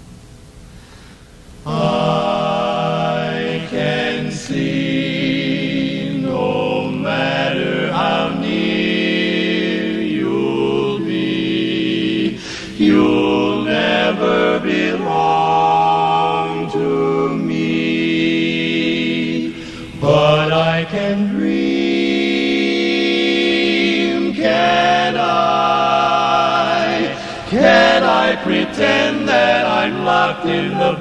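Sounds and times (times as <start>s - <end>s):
male quartet singing a cappella: 1.6s - 31.0s.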